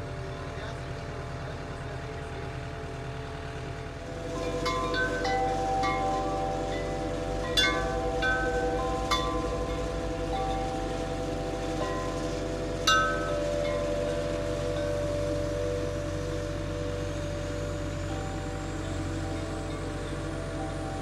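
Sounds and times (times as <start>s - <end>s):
low engine drone: 0.0s - 21.0s
wind chimes ringing: 4.1s - 21.0s.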